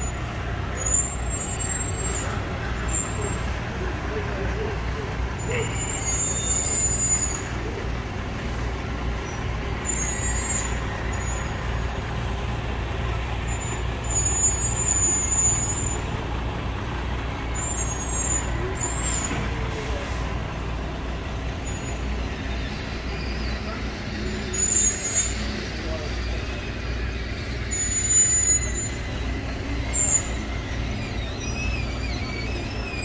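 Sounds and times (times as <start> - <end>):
short high-pitched squeals: 0.0 - 3.9, 5.2 - 7.8, 8.5 - 12.4, 13.0 - 16.2, 16.9 - 20.4, 21.1 - 33.0
diesel truck engine droning: 0.0 - 33.0.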